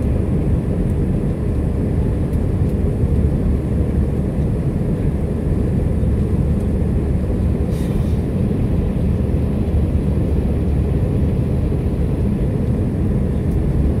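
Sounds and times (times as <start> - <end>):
jet engine cabin rumble: 0.0 - 14.0.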